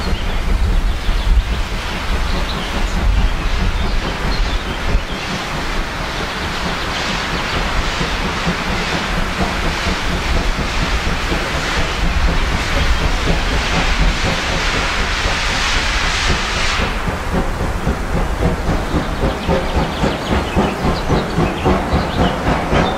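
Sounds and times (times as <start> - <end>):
steam hissing: 0.0 - 22.9
steam locomotive exhaust beats: 0.0 - 22.9.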